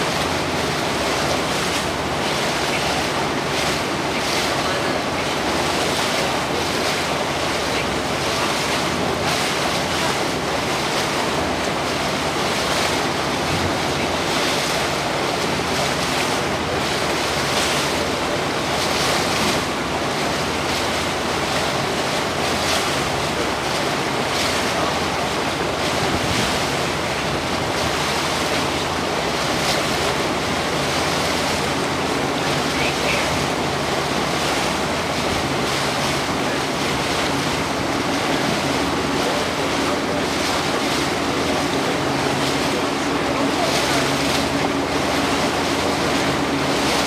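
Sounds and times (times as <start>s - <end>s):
water washing along boat hull: 0.0s - 47.0s.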